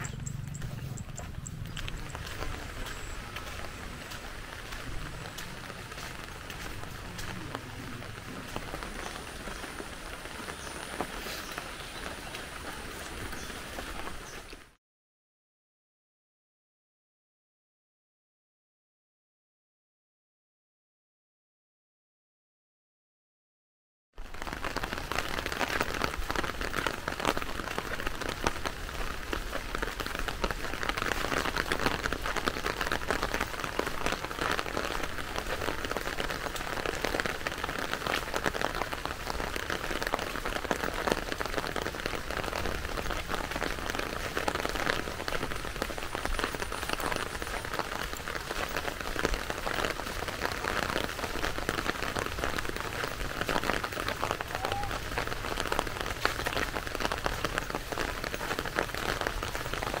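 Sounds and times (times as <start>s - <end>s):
raindrops striking surfaces: 0.0s - 14.8s, 24.2s - 60.0s
steady rain: 0.0s - 14.8s, 24.2s - 60.0s.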